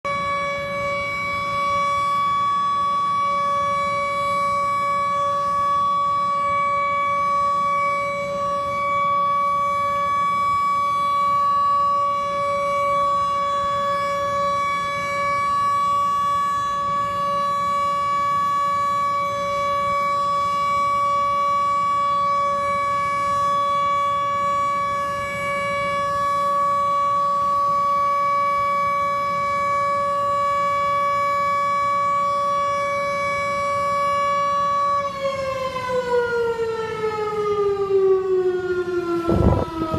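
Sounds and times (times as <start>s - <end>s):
air raid siren wailing: 0.0s - 39.9s.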